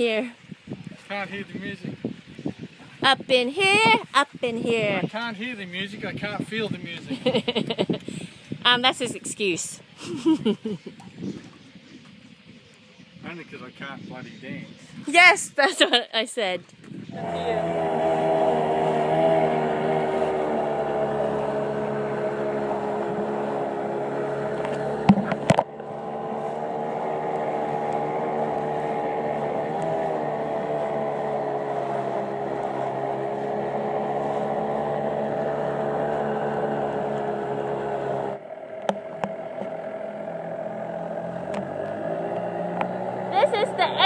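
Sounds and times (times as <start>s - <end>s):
outboard motor drone: 0.0s - 15.0s, 16.7s - 44.0s.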